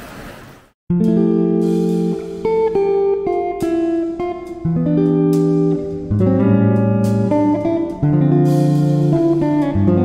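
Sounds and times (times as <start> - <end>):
guitar background music: 0.9 - 10.0.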